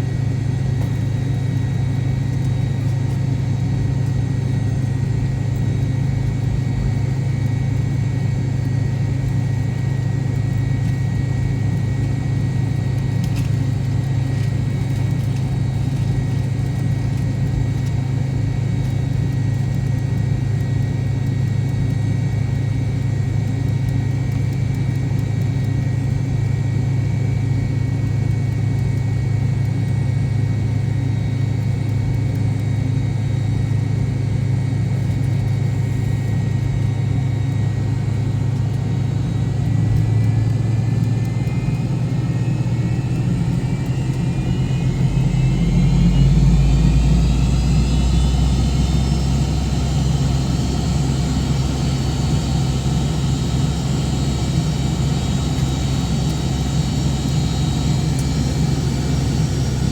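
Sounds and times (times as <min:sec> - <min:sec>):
jet engine whine rising: 0:00.0 - 0:20.0, 0:29.6 - 0:59.9
airliner cabin engine rumble: 0:00.0 - 0:21.5, 0:31.1 - 0:59.9.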